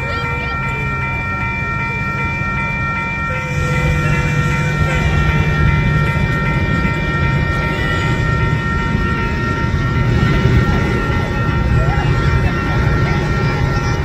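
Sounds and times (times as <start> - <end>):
high whine: 0.0 - 14.0
train rumbling on rails: 0.0 - 14.0.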